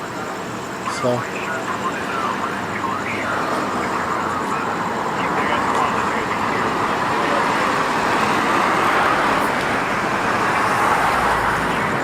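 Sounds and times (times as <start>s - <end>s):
road traffic rushing past: 0.0s - 12.0s.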